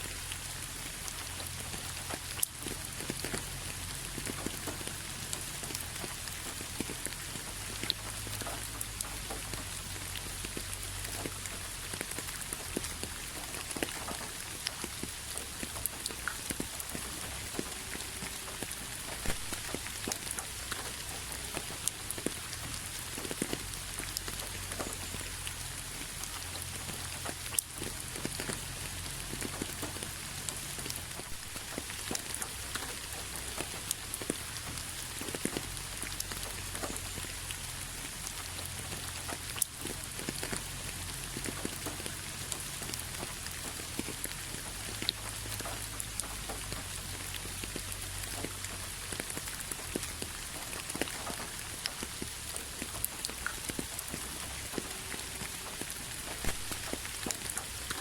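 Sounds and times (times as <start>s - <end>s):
rain on a hard surface: 0.0s - 58.0s.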